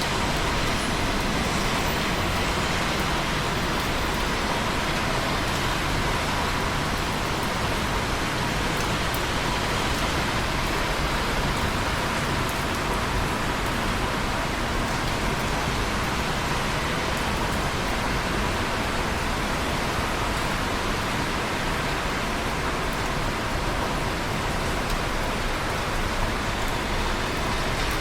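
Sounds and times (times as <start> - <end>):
rain drop ticks: 0.0 - 28.0
steady rain hiss: 0.0 - 28.0.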